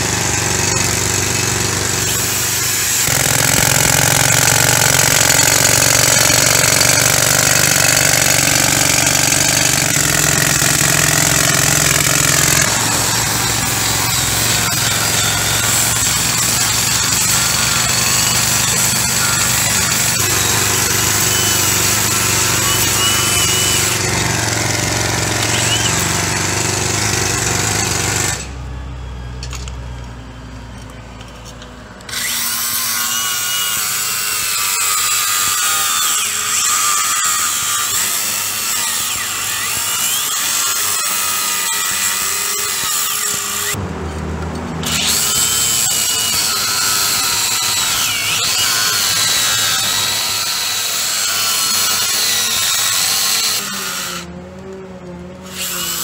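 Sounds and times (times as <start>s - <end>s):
angle grinder cutting steel: 0.0s - 28.5s, 32.1s - 43.8s, 44.8s - 54.8s, 55.4s - 56.0s.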